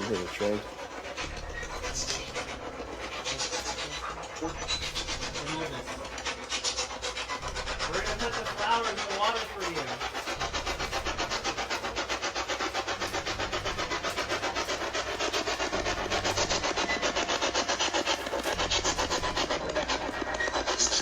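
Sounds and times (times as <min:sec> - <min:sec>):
low rumble: 0:00.9 - 0:21.0.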